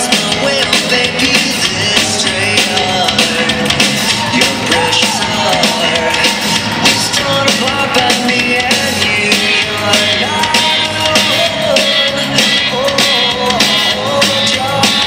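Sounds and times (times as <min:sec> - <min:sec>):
rock and roll music with singer: 0:00.0 - 0:15.0.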